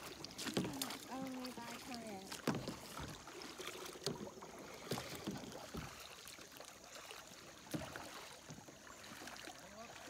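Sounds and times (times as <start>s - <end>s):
paddles splashing in water: 0.0s - 10.0s.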